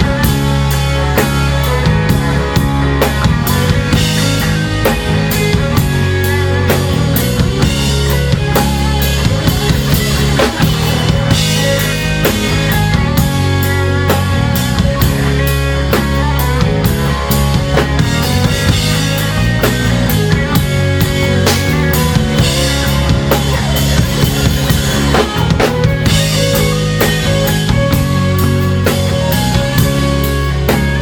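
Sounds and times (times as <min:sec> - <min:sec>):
bass guitar: 0:00.0 - 0:31.0
drum kit and cymbals: 0:00.0 - 0:31.0
electric guitar: 0:00.0 - 0:31.0.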